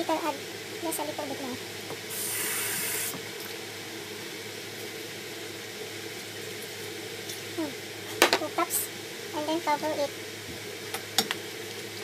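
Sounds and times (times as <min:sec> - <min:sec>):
pot hissing: 0:00.0 - 0:12.0.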